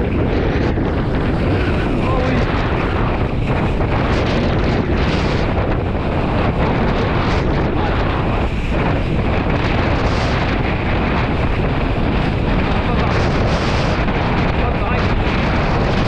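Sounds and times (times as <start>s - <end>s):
board rushing over choppy water: 0.0s - 16.0s
wind buffeting microphone: 0.0s - 16.0s.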